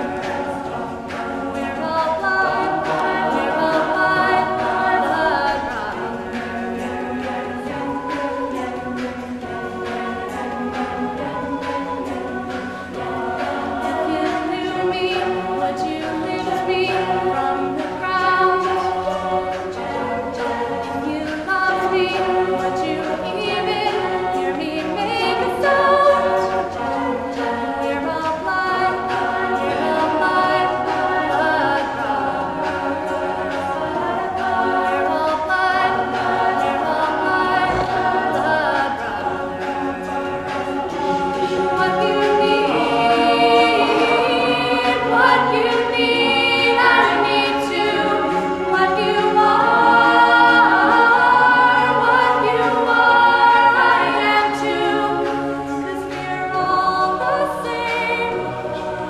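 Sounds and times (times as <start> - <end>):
backing vocal harmonies: 0.0 - 59.0.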